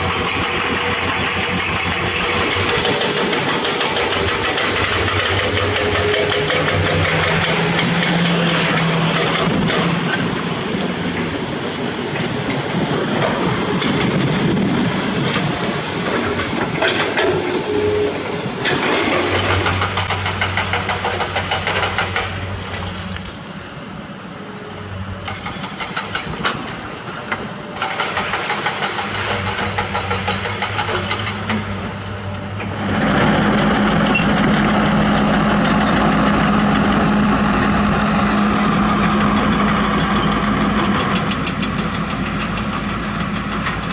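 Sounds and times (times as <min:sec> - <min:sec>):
crawler dozer engine humming: 0:00.0 - 0:43.9
excavator diesel engine under load: 0:00.0 - 0:43.9.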